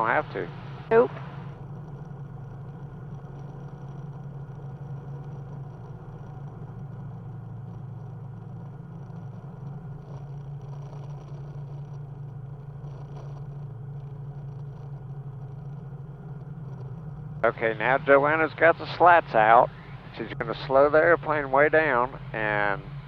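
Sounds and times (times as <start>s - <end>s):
aircraft engine and propeller droning: 0.0s - 23.0s.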